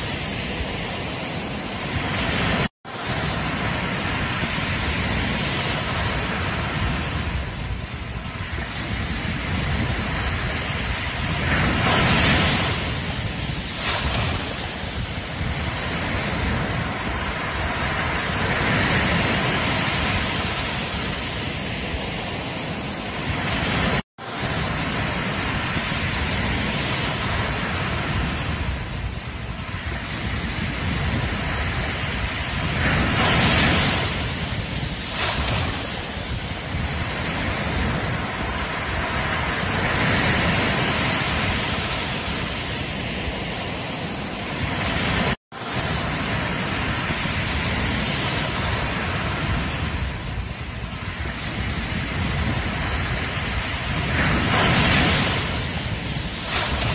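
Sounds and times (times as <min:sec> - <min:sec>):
ocean waves washing onto beach: 0:00.0 - 0:56.9
wind on microphone: 0:00.0 - 0:56.9.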